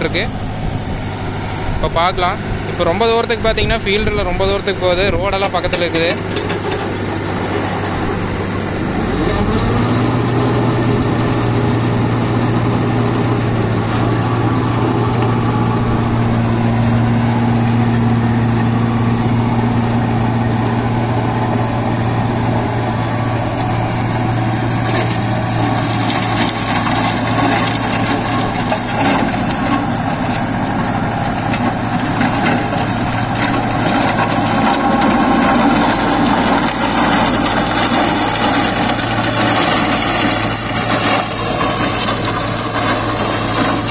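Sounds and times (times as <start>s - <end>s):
flail shredder chewing crop waste: 0.0s - 43.9s
tractor engine droning: 0.0s - 43.9s.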